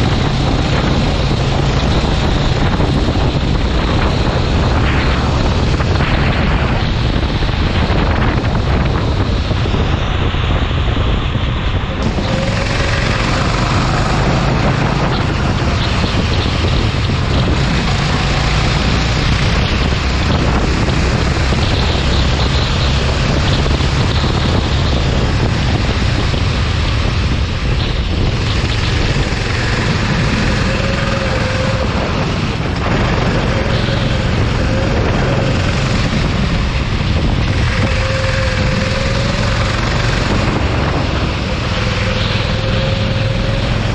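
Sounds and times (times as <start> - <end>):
go-kart engine running: 0.0 - 43.9
wind buffeting microphone: 0.0 - 43.9.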